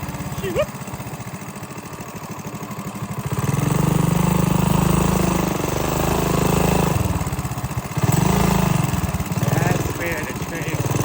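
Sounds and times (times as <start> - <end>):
minibike engine running: 0.0 - 11.0.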